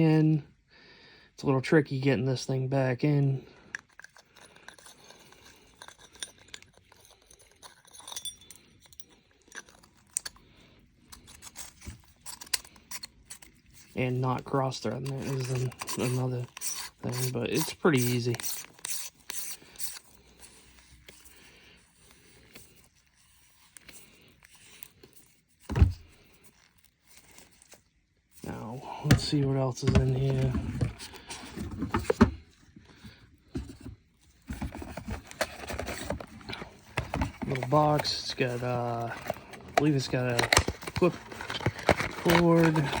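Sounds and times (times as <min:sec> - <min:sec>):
faint rubbing handling sounds: 0:03.7 - 0:43.0.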